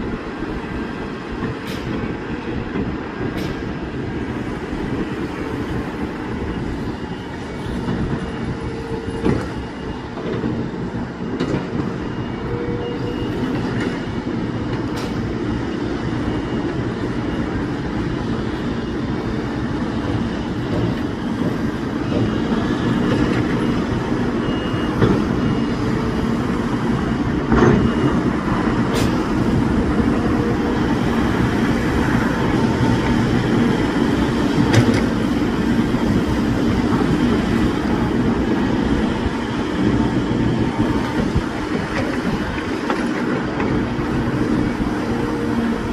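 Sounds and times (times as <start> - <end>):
diesel engines under load: 0.0 - 45.9.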